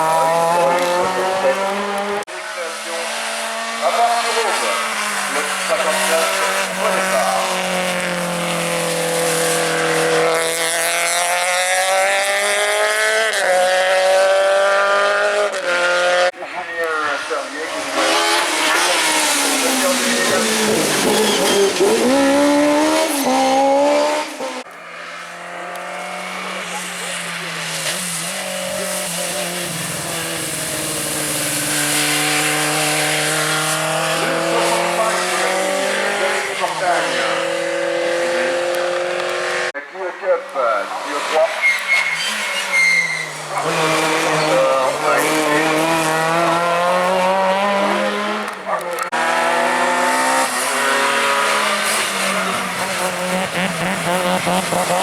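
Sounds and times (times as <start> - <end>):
race car engine accelerating: 0.0 - 39.8, 41.0 - 55.0.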